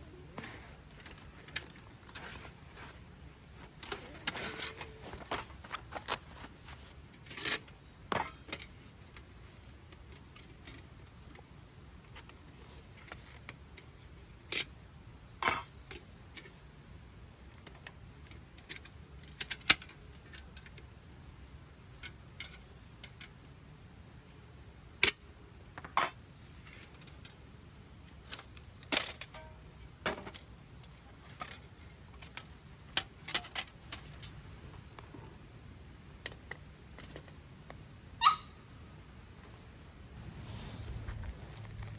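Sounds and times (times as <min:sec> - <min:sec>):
faint low background noise: 0:00.0 - 0:41.9.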